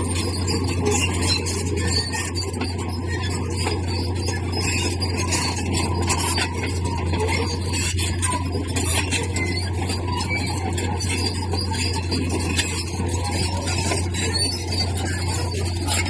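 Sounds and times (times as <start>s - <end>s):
bulldozer engine drone: 0.0s - 16.0s
metal scraping and squealing: 0.0s - 16.0s.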